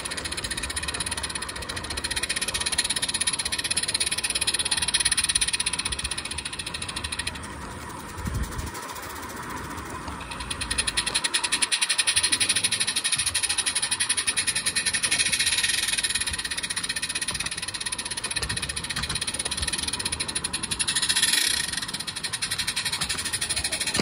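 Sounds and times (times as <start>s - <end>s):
model steam locomotive chuffing: 0.0s - 24.0s.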